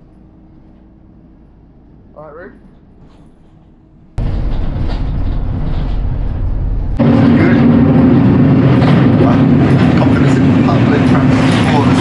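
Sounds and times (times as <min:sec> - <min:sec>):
bus engine rumbling: 0:00.0 - 0:12.0
road noise: 0:00.0 - 0:12.0.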